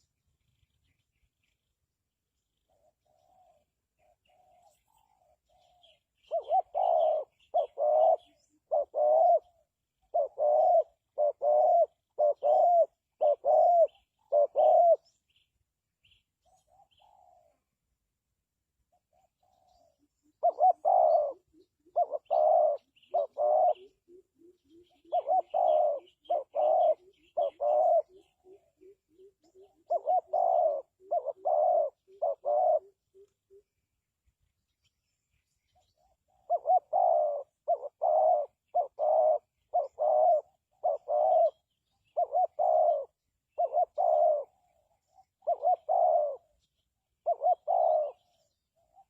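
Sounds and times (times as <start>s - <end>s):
dove cooing: 0.0s - 0.7s, 2.4s - 15.3s, 16.4s - 17.9s, 18.8s - 33.9s, 35.7s - 49.0s.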